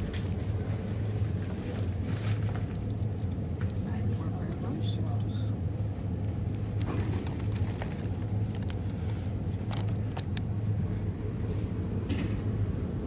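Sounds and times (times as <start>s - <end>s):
store background hum: 0.0s - 13.0s.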